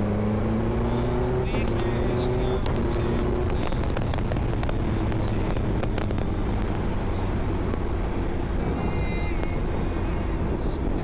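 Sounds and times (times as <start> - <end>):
motorcycle engine running: 0.0 - 9.7
wind noise: 1.4 - 11.0.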